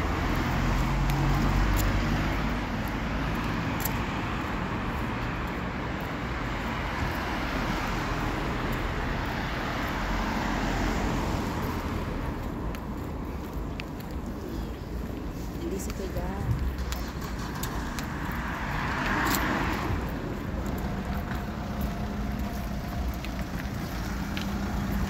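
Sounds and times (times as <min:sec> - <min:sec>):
passing cars hiss and rumble: 0:00.0 - 0:25.0.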